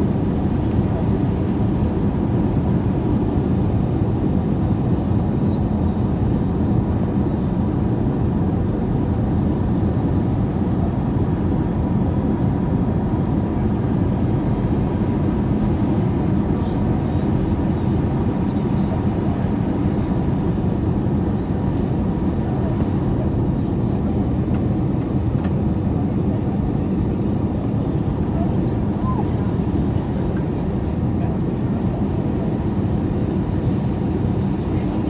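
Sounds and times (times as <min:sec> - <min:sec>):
jet engines and airflow roar: 0:00.0 - 0:35.0.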